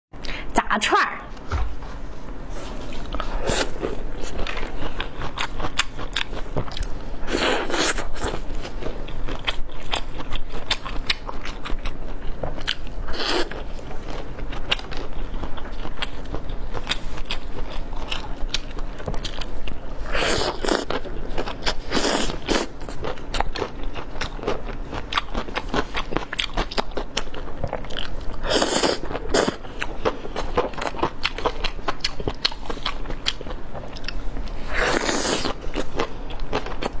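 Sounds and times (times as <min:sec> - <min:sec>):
crunchy biting and chewing: 0:02.9 - 0:37.0.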